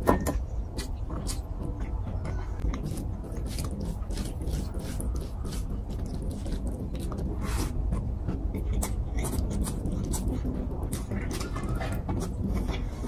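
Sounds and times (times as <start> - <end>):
chewing with lip smacks: 0.4 - 13.0.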